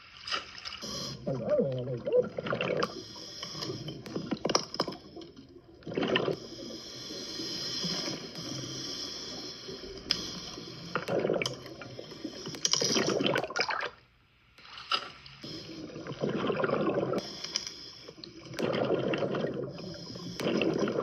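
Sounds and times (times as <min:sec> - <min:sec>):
exhaled bubbles underwater: 0:00.8 - 0:14.0, 0:15.4 - 0:21.0.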